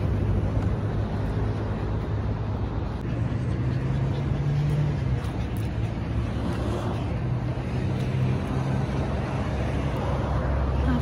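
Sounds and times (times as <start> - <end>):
low engine hum: 0.0 - 11.0
street background noise: 0.0 - 11.0.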